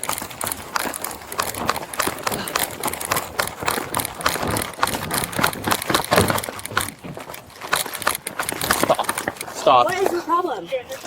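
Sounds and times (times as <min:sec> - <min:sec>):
gear rattling: 0:00.0 - 0:11.0
running footsteps: 0:00.0 - 0:11.0.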